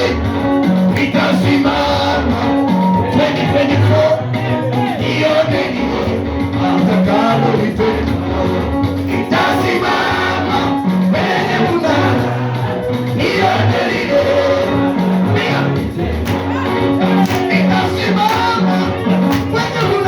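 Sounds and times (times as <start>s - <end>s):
band with bass line: 0.0s - 20.0s
voices singing together: 0.0s - 20.0s.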